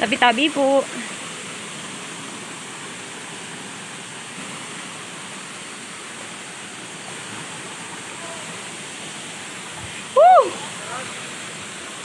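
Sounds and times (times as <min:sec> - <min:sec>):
waterfall splashing over rocks: 0:00.0 - 0:12.0.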